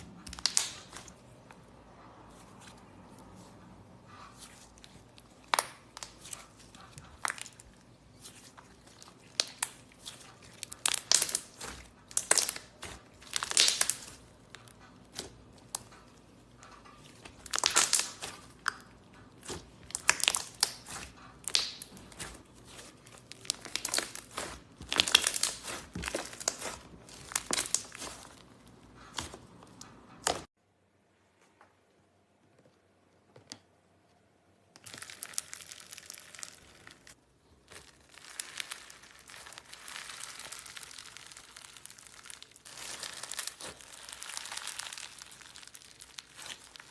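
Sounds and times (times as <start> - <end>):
slime crackling and popping: 0.0 - 1.2, 4.4 - 30.5, 34.8 - 46.9.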